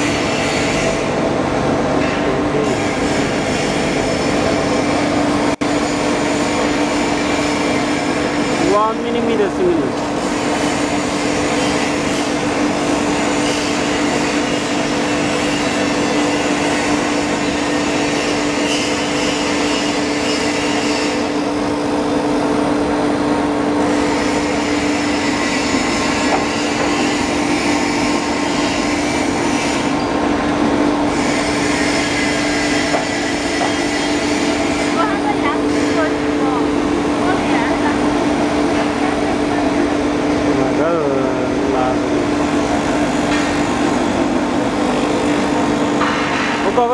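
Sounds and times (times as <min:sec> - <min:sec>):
foam cutting machine humming: 0:00.0 - 0:46.9.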